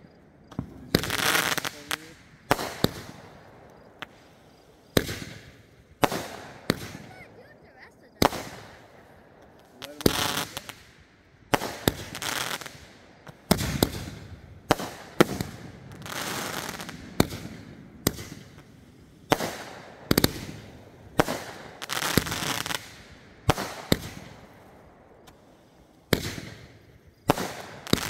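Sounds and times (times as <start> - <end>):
fireworks bangs: 0.0 - 28.0
fireworks crackling hiss: 0.0 - 28.0.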